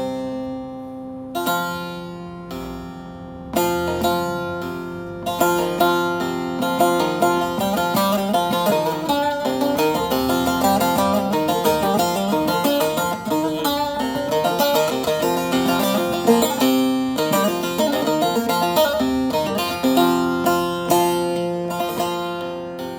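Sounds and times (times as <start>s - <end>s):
plucked string instrument runs: 1.3s - 22.9s.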